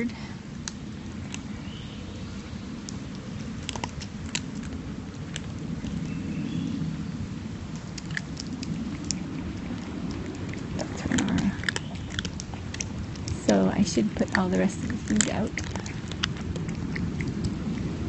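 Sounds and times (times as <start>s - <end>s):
cats chewing food: 0.0s - 18.0s
wind rumble on microphone: 0.0s - 18.0s.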